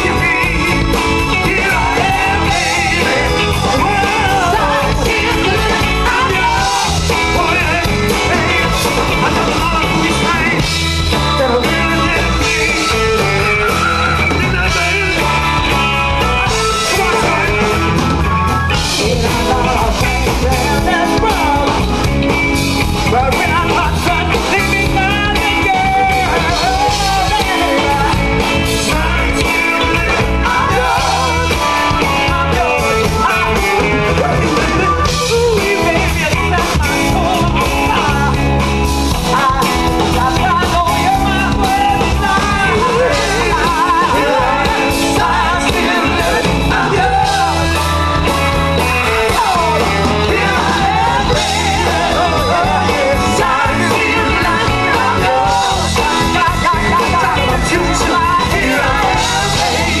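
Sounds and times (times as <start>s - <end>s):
several people singing: 0.0s - 22.1s, 23.0s - 60.0s
bass: 0.0s - 60.0s
drums: 0.0s - 60.0s
electric guitar: 0.0s - 60.0s
keyboards: 0.0s - 60.0s.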